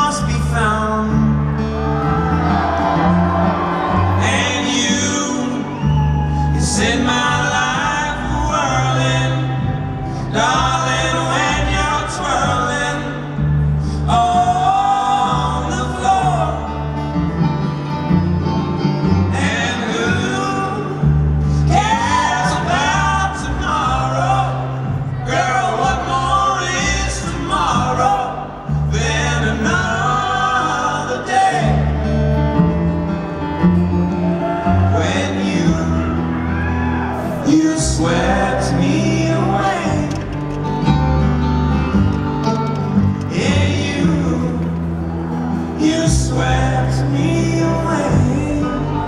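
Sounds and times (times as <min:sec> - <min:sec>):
men singing: 0:00.0 - 0:01.3, 0:01.9 - 0:17.0, 0:19.2 - 0:32.9, 0:34.4 - 0:41.0, 0:43.1 - 0:49.0
bluegrass band playing: 0:00.0 - 0:49.0.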